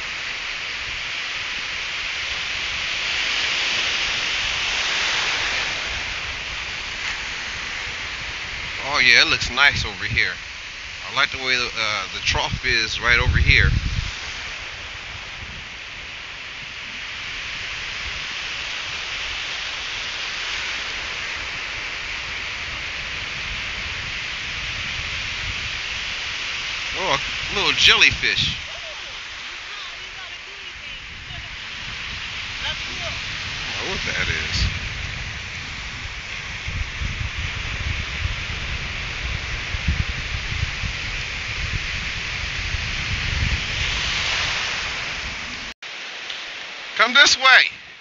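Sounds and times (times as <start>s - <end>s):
ocean surf breaking: 0.0s - 48.0s.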